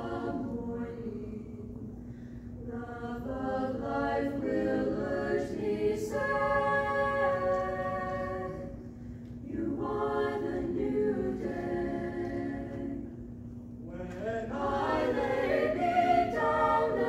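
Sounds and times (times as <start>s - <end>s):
choir singing a cappella: 0.0s - 13.4s, 14.4s - 17.0s.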